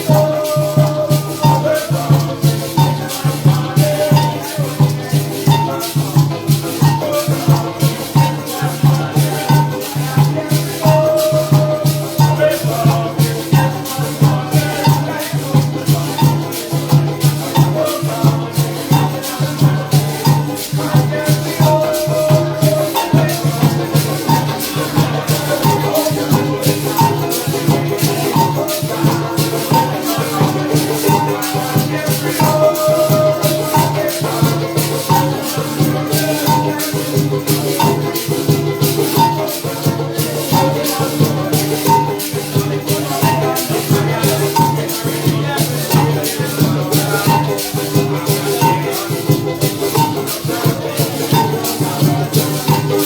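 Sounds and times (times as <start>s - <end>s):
live band instrumental music: 0.0s - 53.0s
shaker rhythm: 0.0s - 53.0s.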